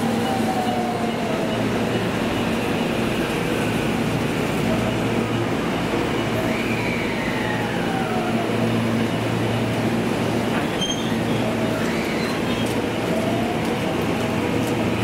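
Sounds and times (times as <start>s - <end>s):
train hum and wheel noise: 0.0s - 15.0s.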